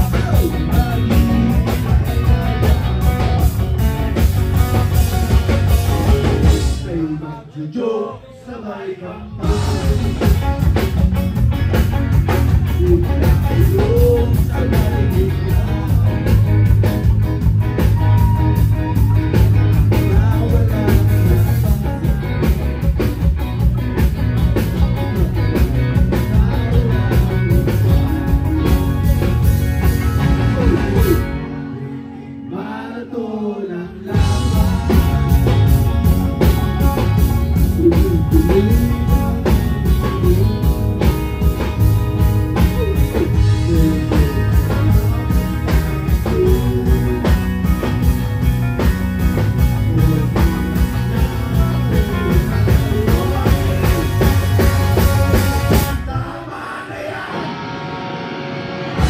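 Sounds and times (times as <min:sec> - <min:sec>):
person singing: 0:00.0 - 0:03.5, 0:04.9 - 0:11.0, 0:12.3 - 0:17.1, 0:17.8 - 0:23.0, 0:24.6 - 0:29.3, 0:30.4 - 0:47.9, 0:49.6 - 0:58.0
live rock band playing: 0:00.0 - 0:07.2, 0:09.4 - 0:32.9, 0:33.8 - 0:59.0.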